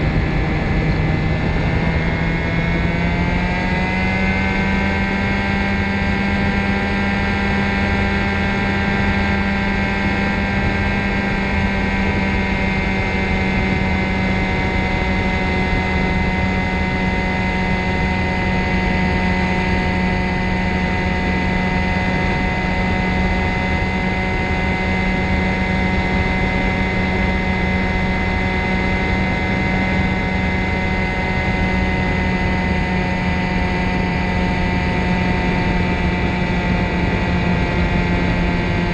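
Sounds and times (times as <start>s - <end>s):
ultralight engine and propeller hum: 0.0s - 38.9s.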